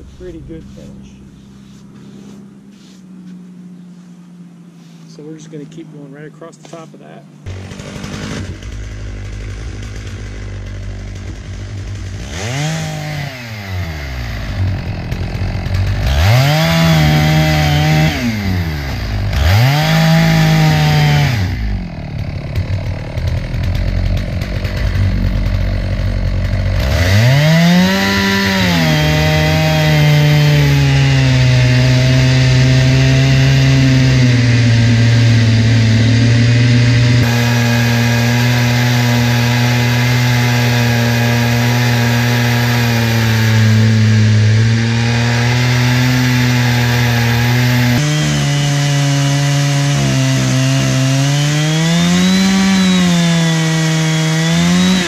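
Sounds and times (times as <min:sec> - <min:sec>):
chainsaw ripping a log: 0:06.6 - 0:55.0.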